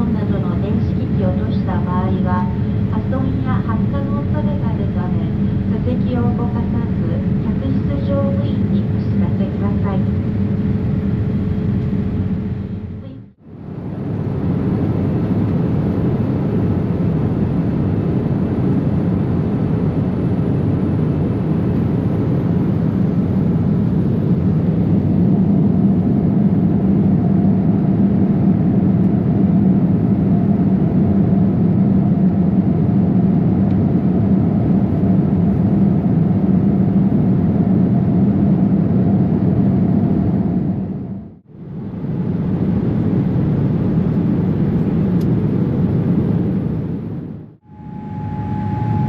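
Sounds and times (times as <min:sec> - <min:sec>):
airplane cabin engine hum: 0:00.0 - 0:49.0.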